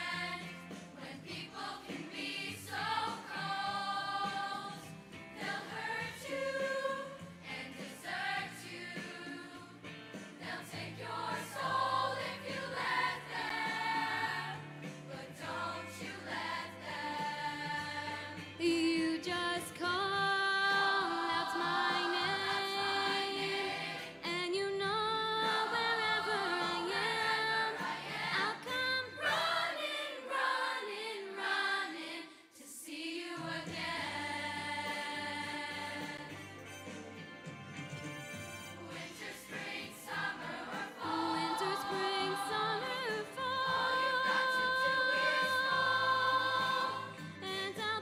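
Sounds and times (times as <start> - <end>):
choir singing held chords: 0.0 - 18.5, 20.8 - 24.3, 25.4 - 36.5, 38.7 - 47.5.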